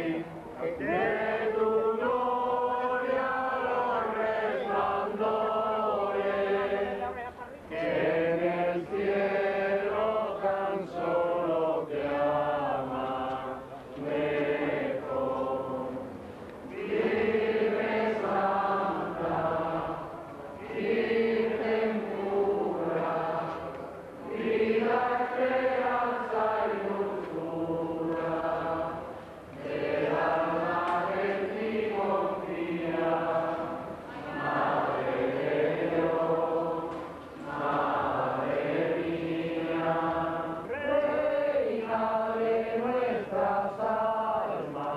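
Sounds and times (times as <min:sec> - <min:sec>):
group of people singing: 0:00.0 - 0:44.9.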